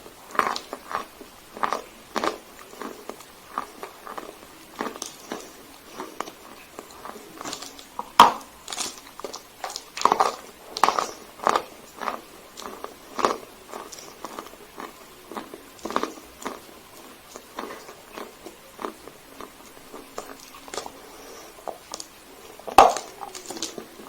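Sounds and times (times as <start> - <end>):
chalk being crunched by chewing: 0.3 - 22.1.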